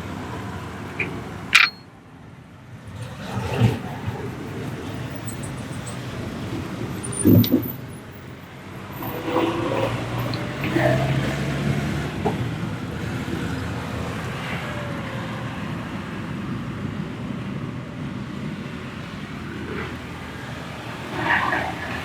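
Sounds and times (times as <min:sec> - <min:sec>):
street traffic hum: 0:00.0 - 0:22.0.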